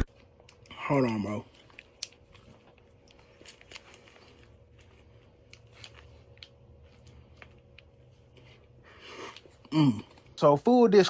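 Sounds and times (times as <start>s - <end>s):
teeth tearing bread: 0.1s - 10.3s.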